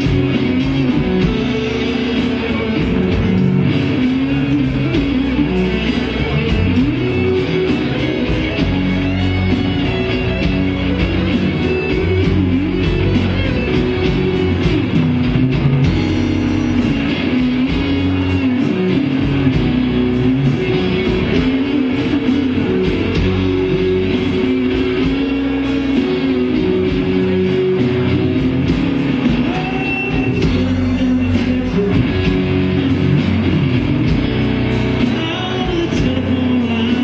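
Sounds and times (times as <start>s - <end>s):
blues band playing: 0.0s - 37.0s.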